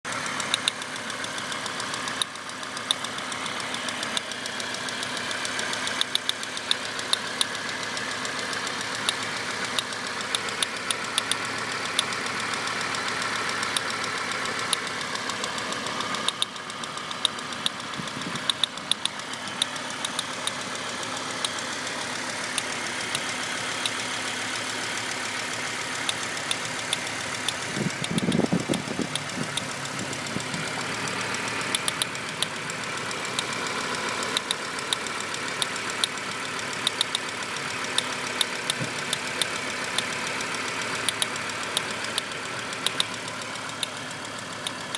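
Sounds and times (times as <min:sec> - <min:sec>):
car engine running: 0:00.0 - 0:44.9
sharp plastic-like clicking: 0:00.2 - 0:44.9.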